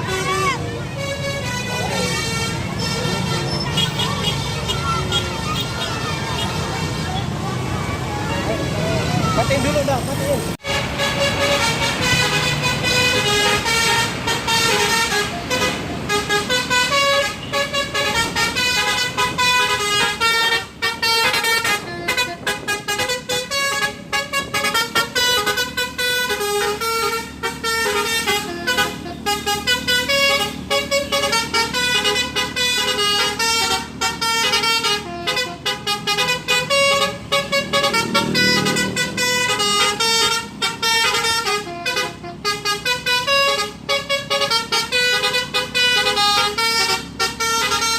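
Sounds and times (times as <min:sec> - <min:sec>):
bus horn playing a tune: 0:00.0 - 0:07.4, 0:10.6 - 0:47.9
bus engine running: 0:00.0 - 0:47.9.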